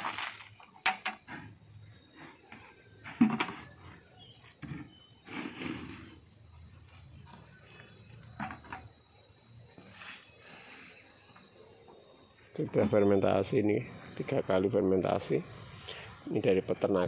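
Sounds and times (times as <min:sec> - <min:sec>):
high-pitched insect call: 0:00.0 - 0:17.0.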